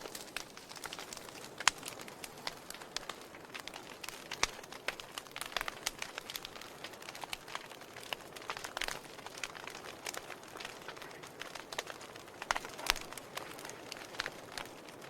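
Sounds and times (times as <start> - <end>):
logs popping: 0.0 - 15.0.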